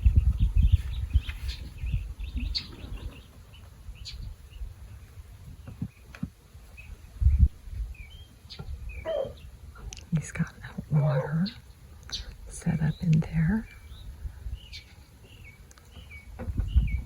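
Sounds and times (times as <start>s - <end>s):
small birds chirping: 0.0s - 17.0s
wind rumbling on microphone: 0.0s - 17.0s.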